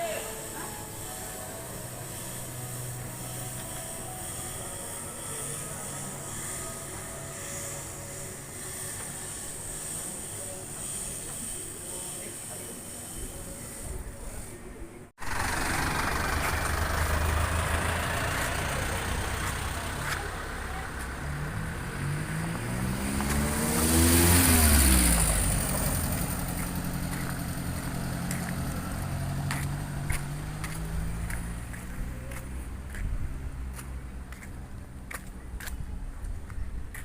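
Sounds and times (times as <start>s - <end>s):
road rumble: 0.0s - 12.6s, 13.4s - 37.0s
vehicle engine: 0.0s - 13.6s, 15.2s - 37.0s.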